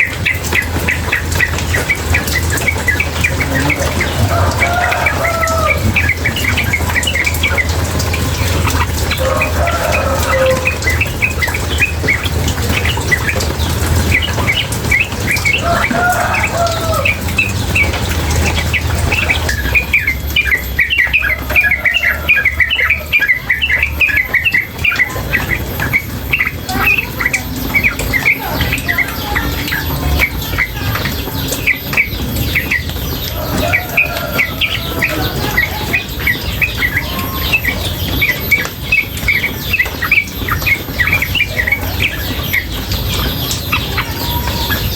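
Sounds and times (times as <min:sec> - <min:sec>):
bird chirping rapidly: 0:00.0 - 0:44.9
running water: 0:00.0 - 0:44.9.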